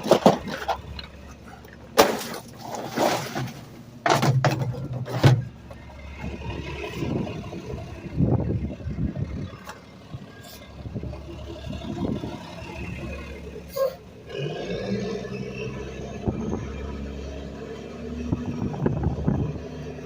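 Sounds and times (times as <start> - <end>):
garbage truck engine running: 0.0 - 20.0.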